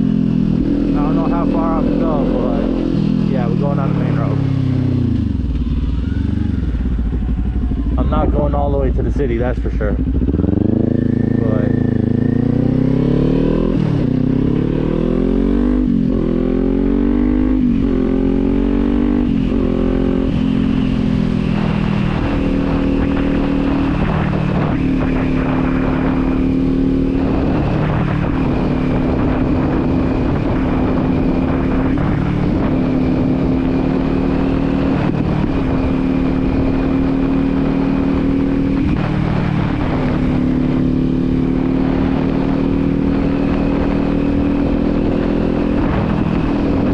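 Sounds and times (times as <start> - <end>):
motorcycle engine accelerating hard: 0.0 - 46.9.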